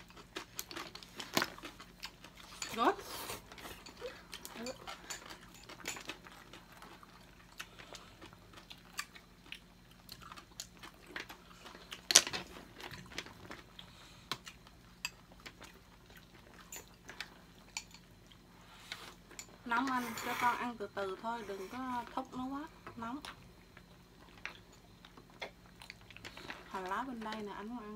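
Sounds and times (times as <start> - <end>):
chewing: 0.0 - 20.0, 23.3 - 26.7.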